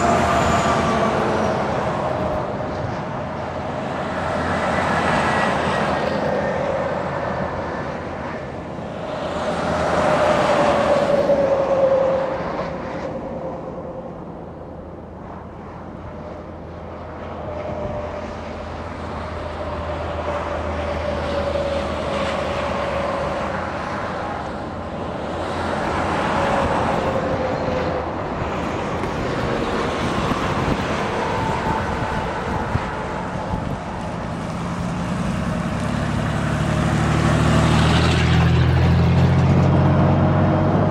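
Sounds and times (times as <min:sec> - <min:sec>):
highway traffic rumble: 0:00.0 - 0:40.9.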